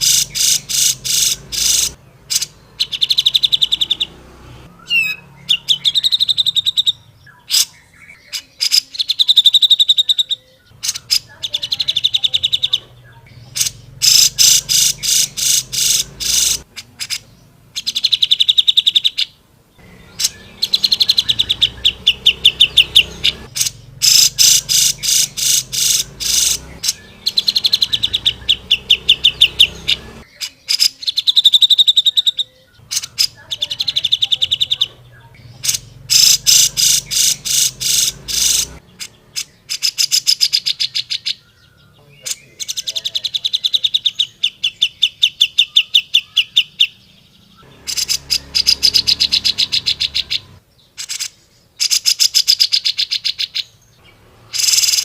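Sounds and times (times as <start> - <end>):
bird chattering trills: 0.0 - 55.0.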